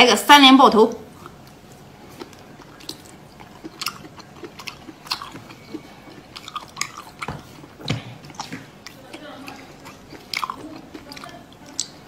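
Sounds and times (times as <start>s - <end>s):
wet biting and chewing: 1.2s - 12.0s.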